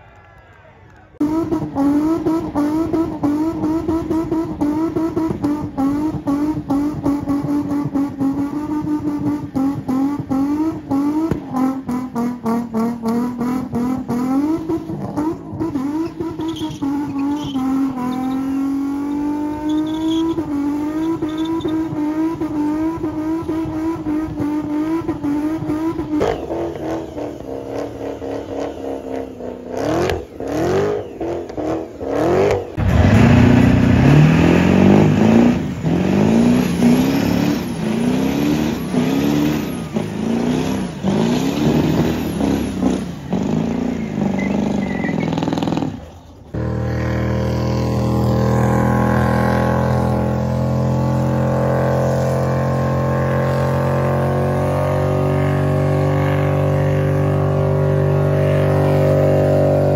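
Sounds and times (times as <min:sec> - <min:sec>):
car engine revving: 0:01.2 - 0:59.9.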